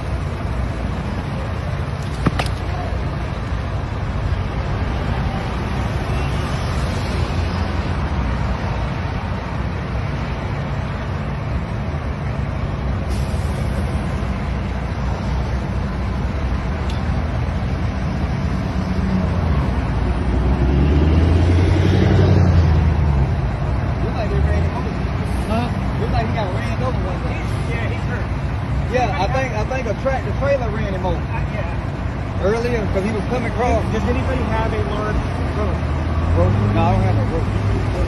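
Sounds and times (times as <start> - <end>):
road traffic noise: 0.0 - 38.0.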